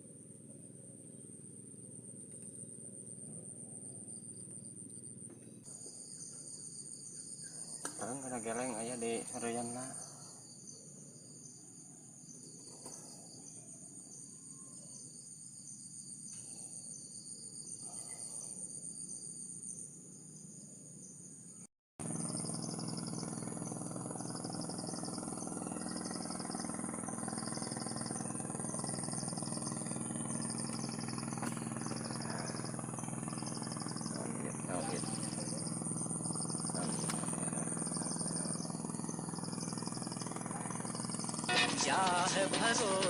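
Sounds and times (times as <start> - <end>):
insects and crickets calling: 0.0 - 43.0
pulsing insect trill: 0.0 - 43.0
steady engine hum: 0.0 - 43.0.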